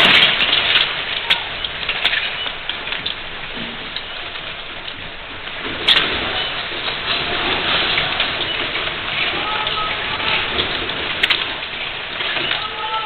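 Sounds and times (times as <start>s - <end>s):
scattered clicks: 0.0s - 13.0s
sharp crack: 0.0s - 13.0s
steady hissing pattering noise: 0.0s - 13.0s.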